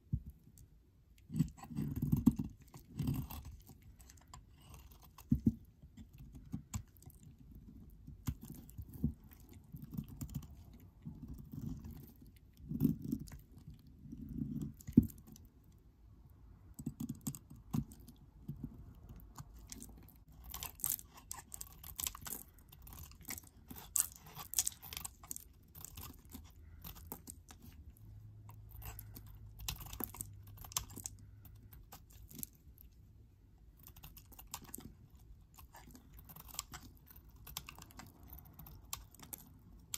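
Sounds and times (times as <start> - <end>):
knife shaving soap: 0.0 - 15.6, 16.6 - 39.9.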